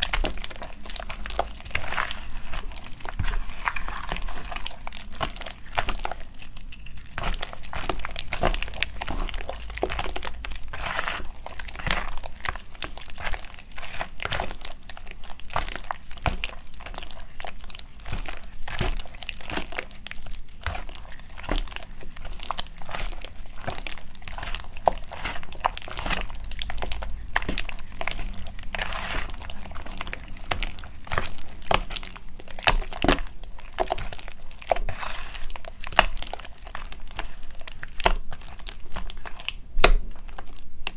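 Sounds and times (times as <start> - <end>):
hands squishing wet chalk paste: 0.0 - 40.9.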